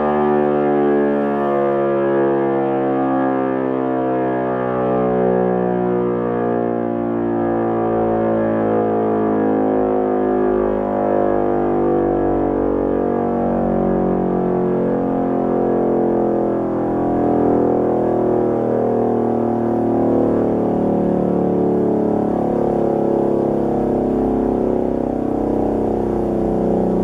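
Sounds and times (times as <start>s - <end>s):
mechanical siren steady tone: 0.0s - 27.0s.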